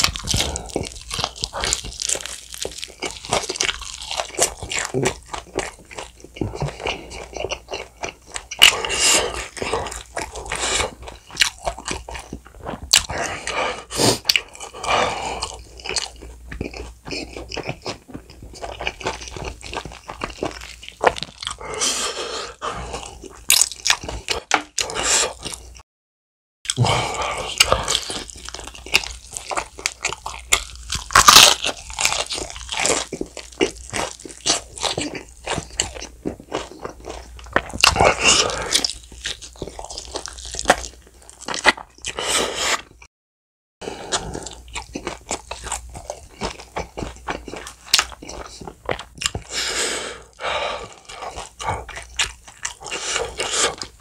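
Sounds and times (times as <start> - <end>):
crunching and chewing fried chicken: 0.0 - 25.8, 26.7 - 43.1, 43.8 - 54.0.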